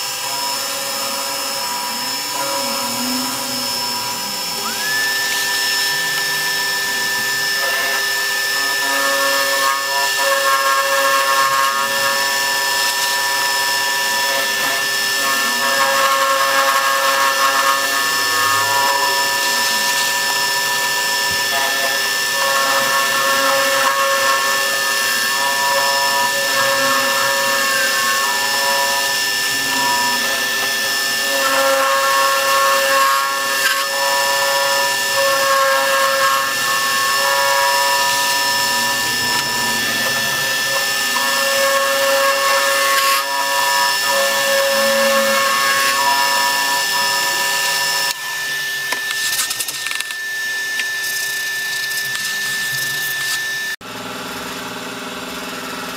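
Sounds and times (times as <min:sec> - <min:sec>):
power tool cutting wood: 0:00.0 - 0:55.9.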